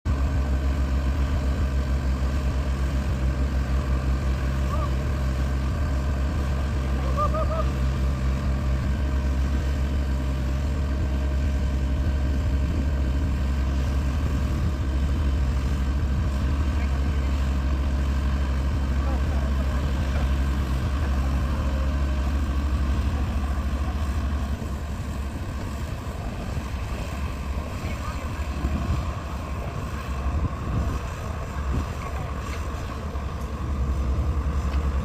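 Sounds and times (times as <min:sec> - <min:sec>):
heavy diesel engine throbbing: 0:00.0 - 0:35.0.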